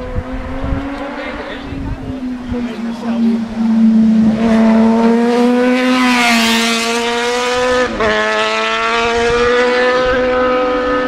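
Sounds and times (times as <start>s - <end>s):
motorbike engines at high revs: 0.0s - 11.0s.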